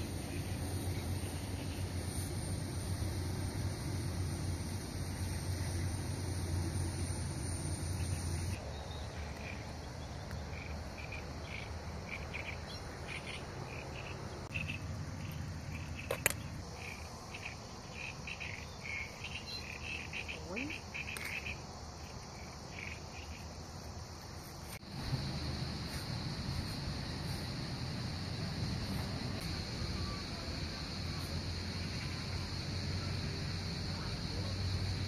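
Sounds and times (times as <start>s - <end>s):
insects chirping: 0.0s - 35.0s
steady high hiss: 0.0s - 35.0s.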